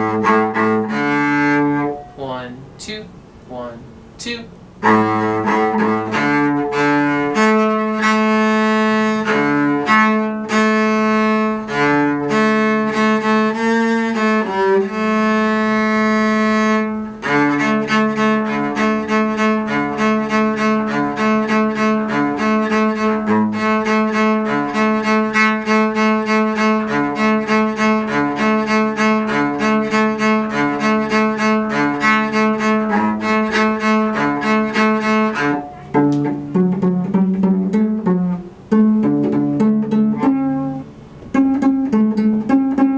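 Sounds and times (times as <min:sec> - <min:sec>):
bowed strings with cello: 0:00.0 - 0:02.7, 0:04.7 - 0:42.9.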